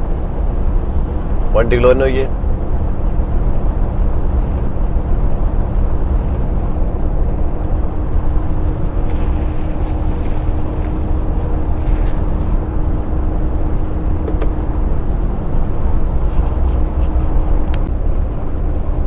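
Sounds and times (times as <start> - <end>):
diesel engine and road noise: 0.0 - 19.0
faint steady hum: 0.0 - 19.0.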